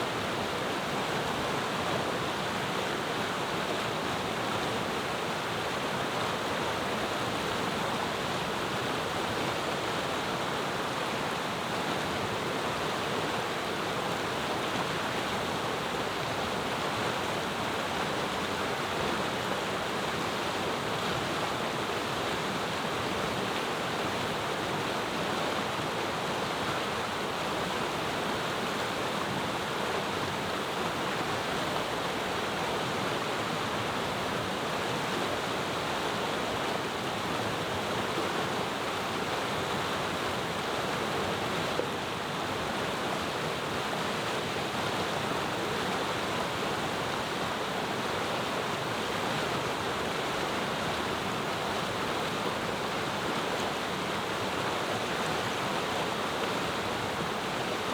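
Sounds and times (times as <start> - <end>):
river rushing over stones: 0.1 - 57.9.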